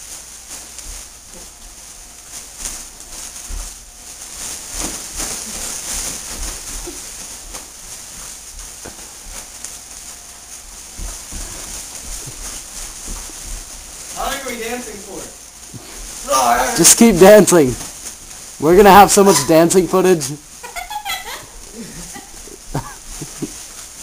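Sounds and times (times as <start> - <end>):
rustling of costumes: 0.0 - 24.0
steady hiss: 0.0 - 24.0.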